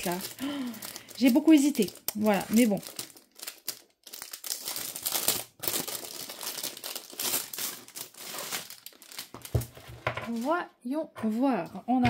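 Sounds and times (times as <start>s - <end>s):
plastic sleeve crinkling: 0.0s - 10.6s.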